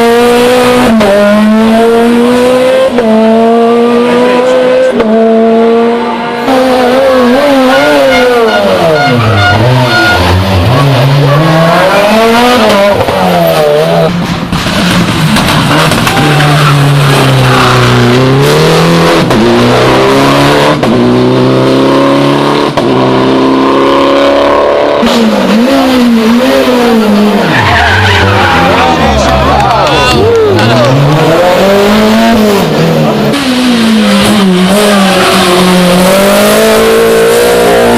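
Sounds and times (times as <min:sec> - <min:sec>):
rally car engine revving: 0:00.0 - 0:37.9.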